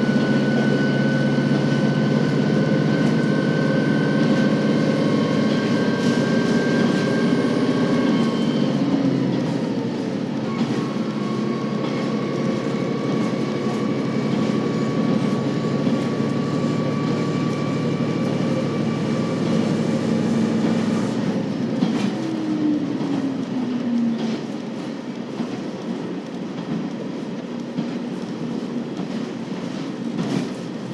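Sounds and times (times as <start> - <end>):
diesel engine drone: 0.0 - 25.3
wheel and rail noise: 0.0 - 30.9.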